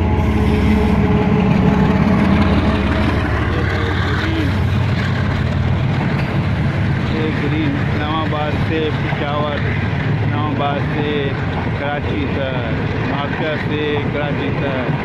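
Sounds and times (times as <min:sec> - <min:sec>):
diesel locomotive engine passing: 0:00.0 - 0:15.0
train wheels rumbling on rails: 0:00.0 - 0:15.0.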